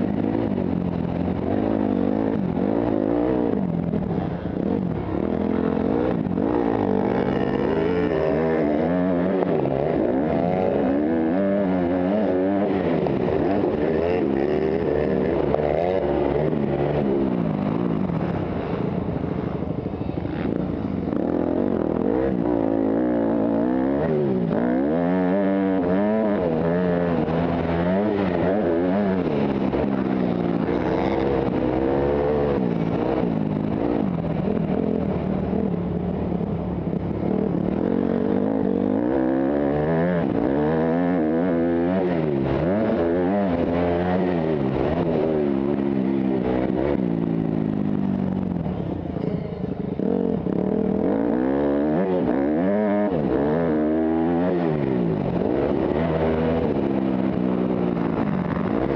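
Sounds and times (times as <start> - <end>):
motocross bike engine revving: 0.0 - 18.8, 20.3 - 49.3, 49.9 - 58.9.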